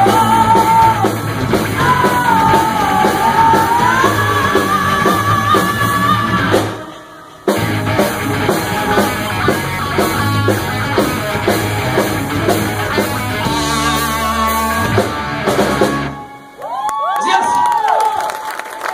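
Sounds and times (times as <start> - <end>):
heavy metal band playing live: 0.0 - 16.4.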